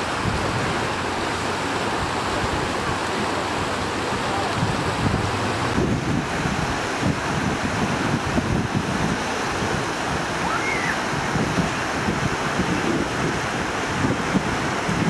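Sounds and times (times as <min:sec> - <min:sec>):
floodwater rushing: 0:00.0 - 0:15.0
wind buffeting microphone: 0:00.0 - 0:15.0.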